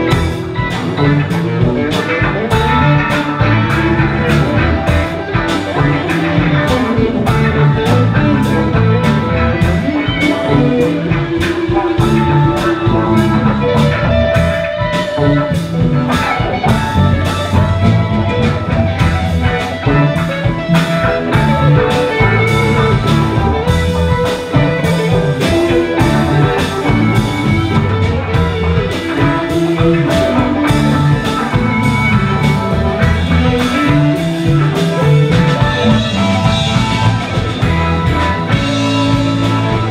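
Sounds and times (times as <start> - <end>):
bass: 0.0 - 39.9
electric guitar: 0.0 - 39.9
keyboards: 0.0 - 39.9
steady drum beat: 0.0 - 39.9.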